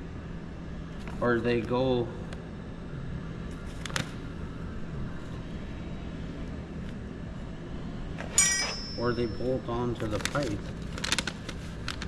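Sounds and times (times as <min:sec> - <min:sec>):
shop heater drone: 0:00.0 - 0:12.0.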